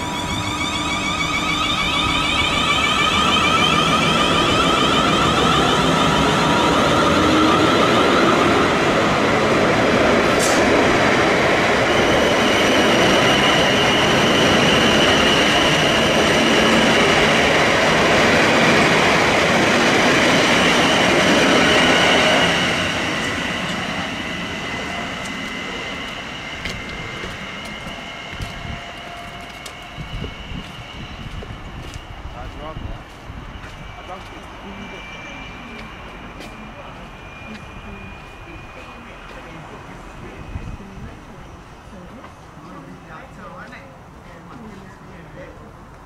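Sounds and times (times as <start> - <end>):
train wheels rumbling on rails: 0.0 - 43.8
high train whine: 0.0 - 46.0.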